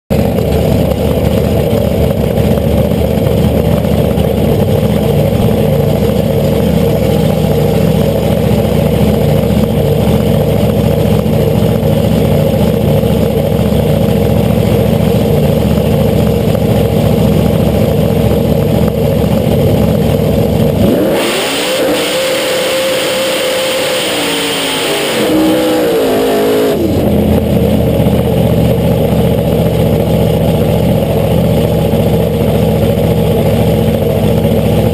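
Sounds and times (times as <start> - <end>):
dragster engine idling and revving: 0.1 - 34.9.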